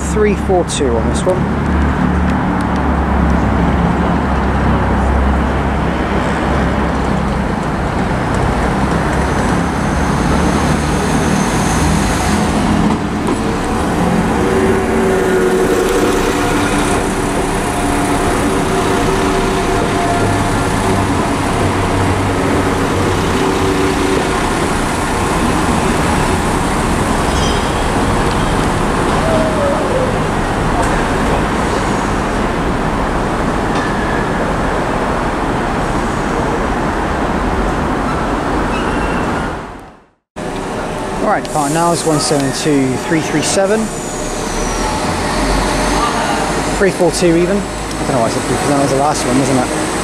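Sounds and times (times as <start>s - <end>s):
diesel train engines humming: 0.0s - 50.0s.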